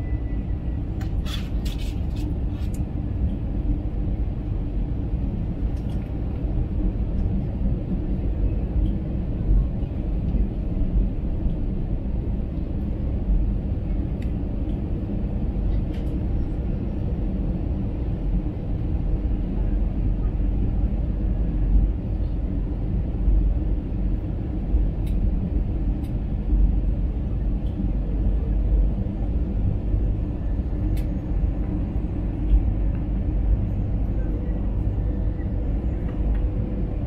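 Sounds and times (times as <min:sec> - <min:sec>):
airplane cabin rumble: 0:00.0 - 0:37.0.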